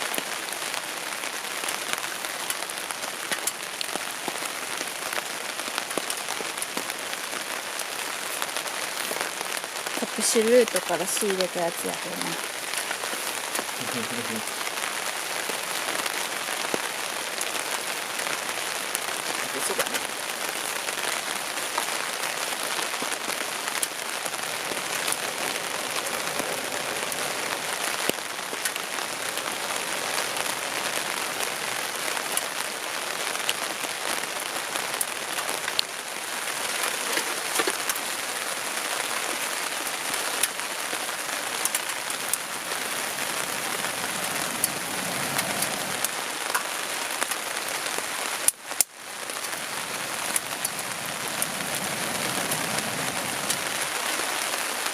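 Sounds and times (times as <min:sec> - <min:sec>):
rain pattering: 0:00.0 - 0:54.9
sharp raindrop hits: 0:00.0 - 0:54.9.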